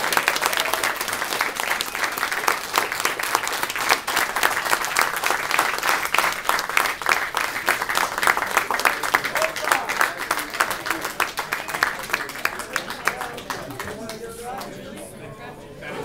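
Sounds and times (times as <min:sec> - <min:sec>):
crowd applauding: 0:00.0 - 0:14.8.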